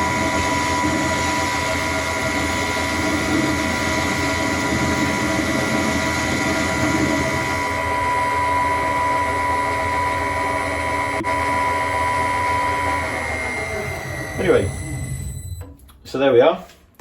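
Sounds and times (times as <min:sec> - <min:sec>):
lathe tool cutting: 0:00.0 - 0:15.6
lathe running with high whine: 0:00.0 - 0:15.7.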